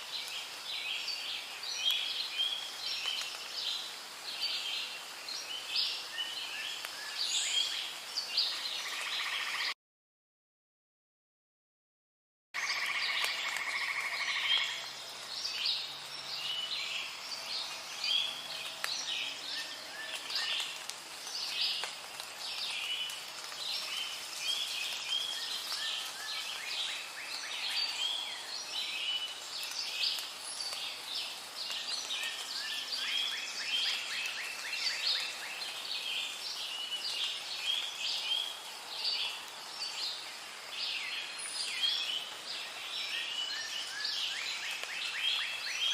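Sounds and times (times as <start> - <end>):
background hiss: 0.0 - 9.6, 12.6 - 45.9.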